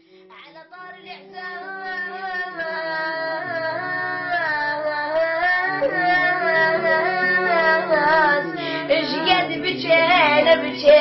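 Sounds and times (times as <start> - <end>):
boy singing mournful lament: 0.3 - 11.0.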